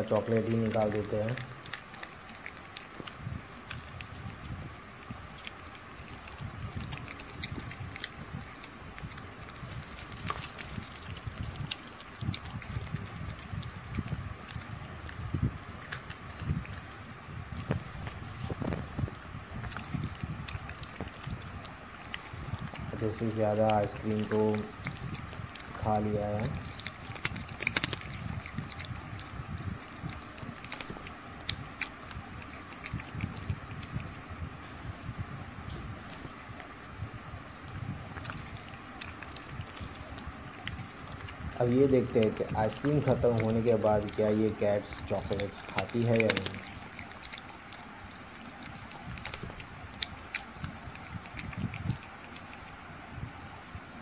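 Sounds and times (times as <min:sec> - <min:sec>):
kittens licking and lapping: 0:00.0 - 0:54.0
low background rumble: 0:00.0 - 0:54.0.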